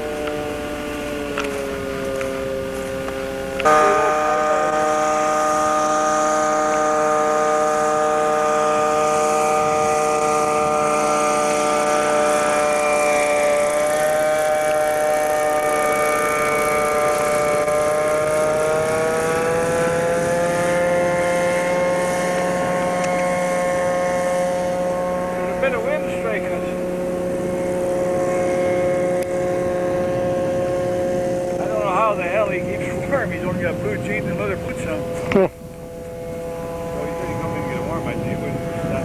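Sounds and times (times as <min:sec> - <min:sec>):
ultralight plane engine droning: 0:00.0 - 0:39.0.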